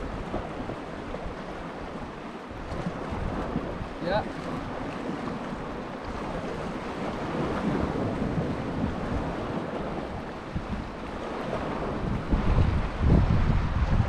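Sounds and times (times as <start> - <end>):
sea waves on rocky shore: 0.0 - 14.0
wind buffeting microphone: 0.0 - 14.0.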